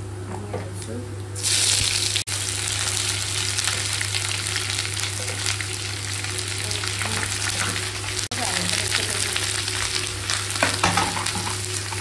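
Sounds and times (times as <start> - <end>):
vegetables sizzling in hot oil: 1.4 - 12.0.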